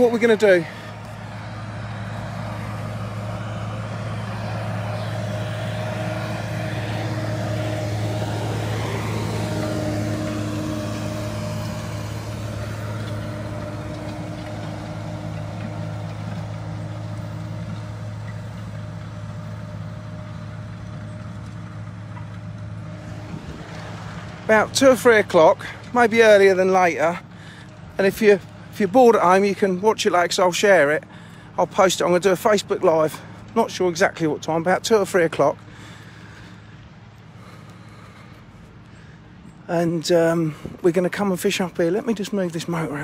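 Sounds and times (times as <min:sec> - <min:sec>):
tractor engine under load: 0:00.0 - 0:43.0.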